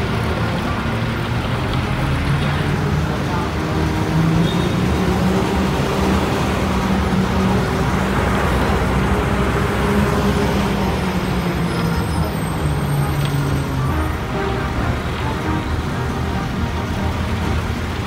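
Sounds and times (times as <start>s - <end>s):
bus engine running at low revs: 0.0s - 18.0s
surrounding street traffic: 0.0s - 18.0s.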